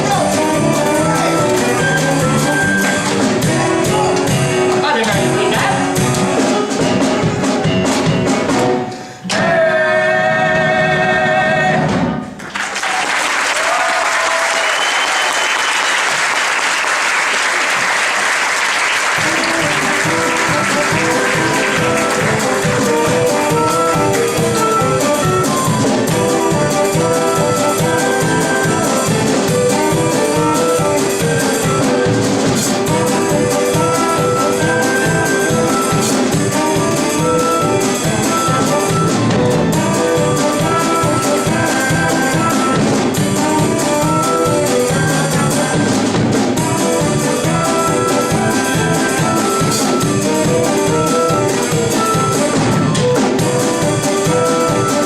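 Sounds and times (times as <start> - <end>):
jazzy brass band music: 0.0 - 12.4, 13.6 - 55.0.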